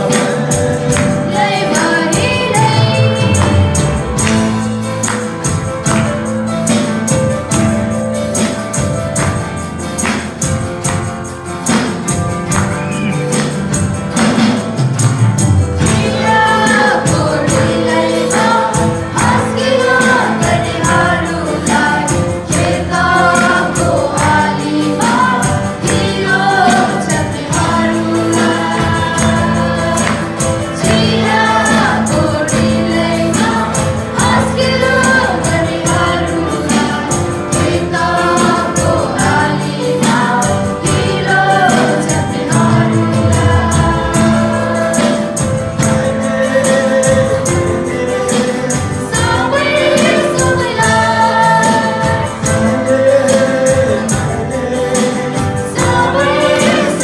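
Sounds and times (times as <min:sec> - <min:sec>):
group singing: 0:00.0 - 0:07.7, 0:15.4 - 0:57.0
acoustic guitar: 0:00.0 - 0:57.0
drums: 0:00.0 - 0:57.0
electric guitar: 0:00.0 - 0:57.0.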